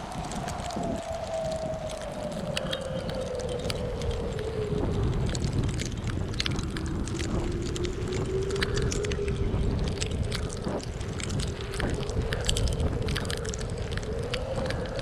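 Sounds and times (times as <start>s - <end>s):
faint irregular ticks: 0.0s - 15.0s
wind buffeting microphone: 0.0s - 15.0s
wind howling: 0.0s - 15.0s.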